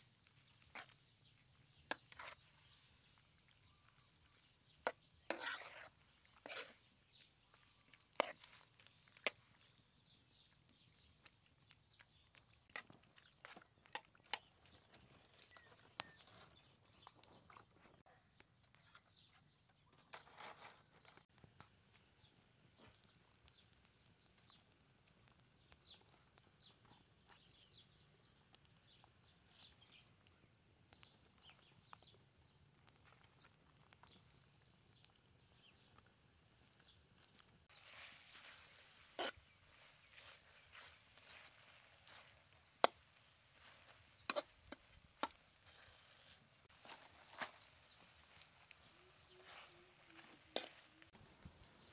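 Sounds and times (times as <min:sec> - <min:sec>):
wood fire crackling and popping: 0:00.0 - 0:19.2, 0:21.0 - 0:51.9.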